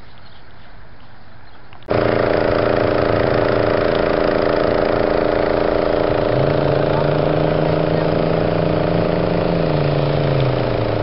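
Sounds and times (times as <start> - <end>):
vehicle engine idling: 1.9 - 11.0.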